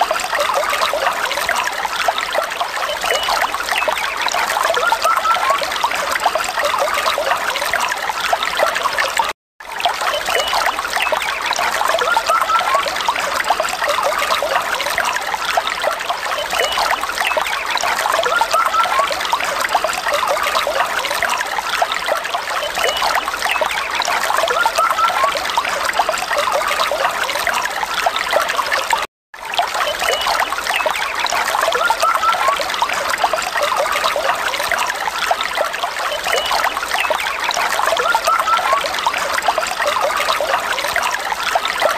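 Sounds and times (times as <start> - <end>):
stream gurgling over rocks: 0.0 - 41.9.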